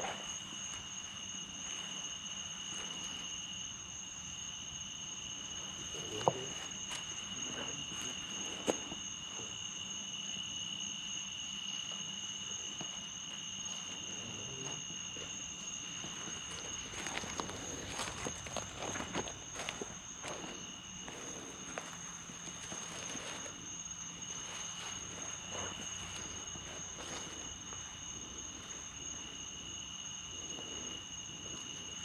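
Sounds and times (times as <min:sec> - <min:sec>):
insect chorus trilling: 0:00.0 - 0:32.0.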